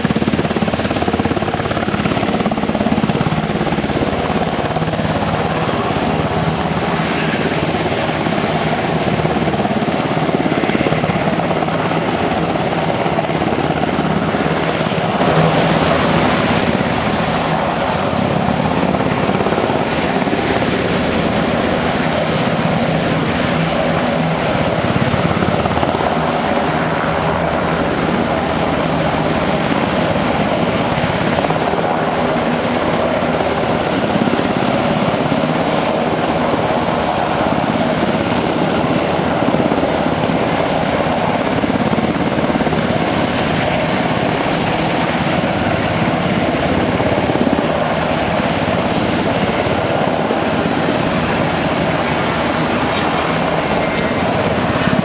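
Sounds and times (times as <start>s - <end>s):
helicopters hovering: 0.0s - 55.0s.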